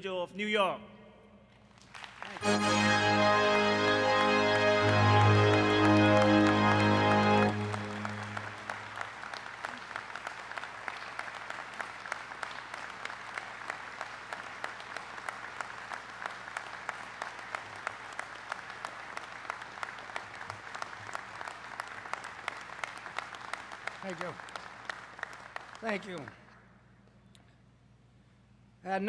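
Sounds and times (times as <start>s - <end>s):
audience applauding: 1.8s - 26.4s.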